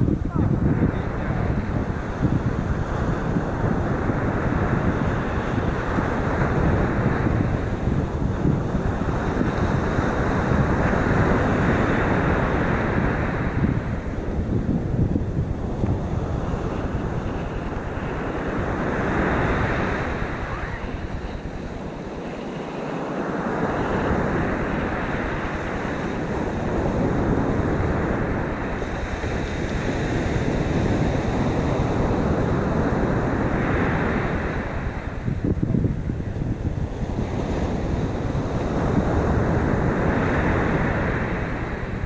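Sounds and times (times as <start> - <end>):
heavy surf breaking: 0.0 - 42.0
wind buffeting microphone: 0.0 - 42.0.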